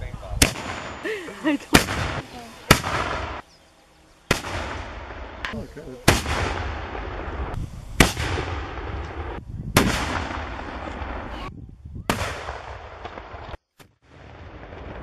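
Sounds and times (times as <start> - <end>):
cannon shots booming: 0.4 - 1.0, 1.7 - 3.4, 4.3 - 11.5, 12.1 - 15.0.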